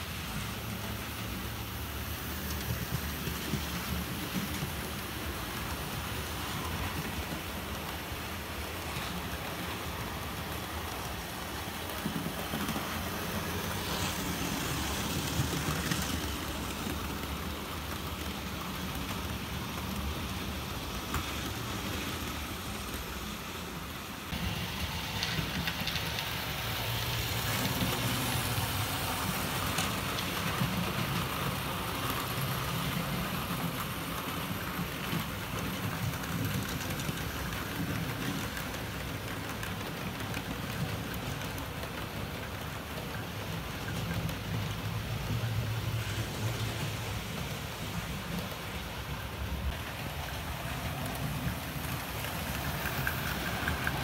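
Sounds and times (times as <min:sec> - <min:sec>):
wheels rattling over rail joints: 0:00.0 - 0:54.0.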